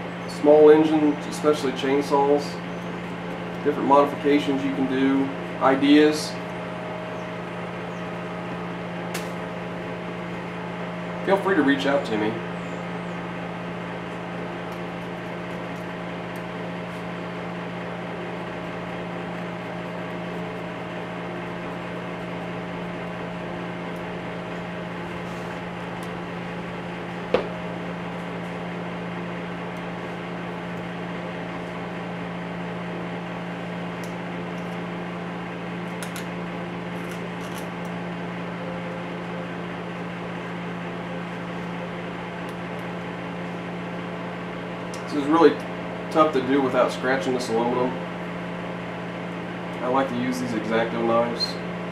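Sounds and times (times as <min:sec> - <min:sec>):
machine hum: 0:00.0 - 0:51.9.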